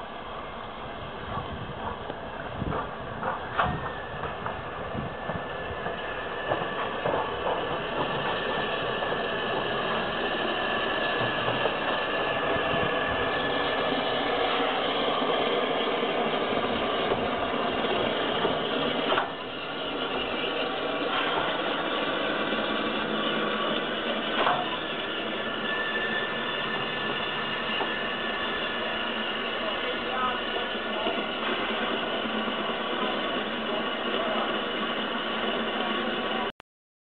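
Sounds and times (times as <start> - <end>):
steam hissing: 0.0 - 36.5.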